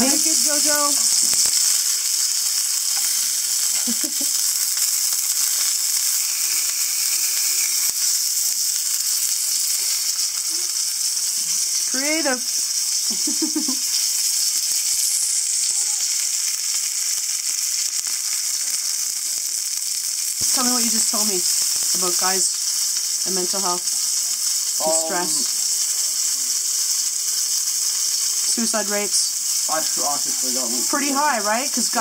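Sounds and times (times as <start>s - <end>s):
steak sizzling in a pan: 0.0s - 32.0s.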